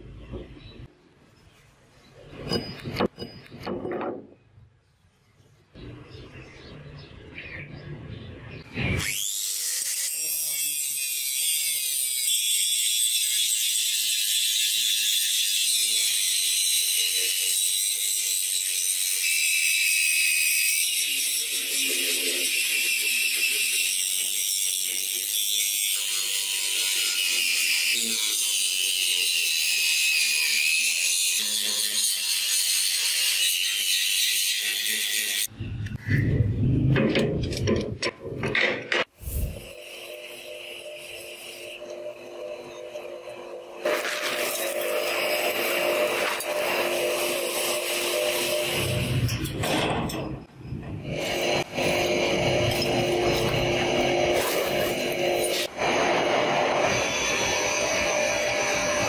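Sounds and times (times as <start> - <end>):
angle grinder grinding steel: 8.7 - 38.0, 39.0 - 59.0.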